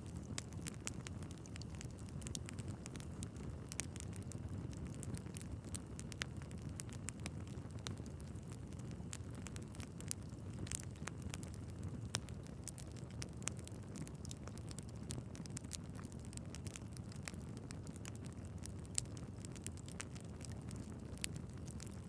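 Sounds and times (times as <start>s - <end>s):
flames rumbling: 0.0s - 22.0s
logs crackling and popping: 0.0s - 22.0s.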